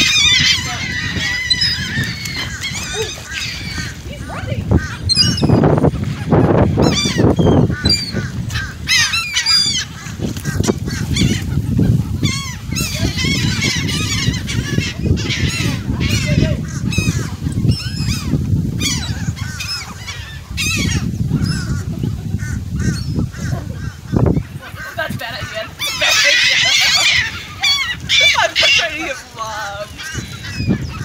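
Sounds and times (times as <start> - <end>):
crowd of birds calling: 0.0 - 31.0.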